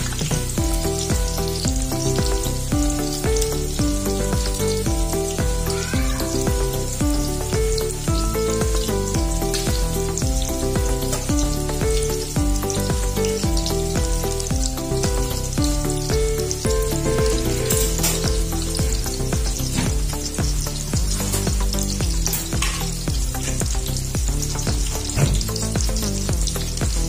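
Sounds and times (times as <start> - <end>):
background music with steady beat: 0.0 - 27.0
food sizzling in hot oil: 0.0 - 27.0.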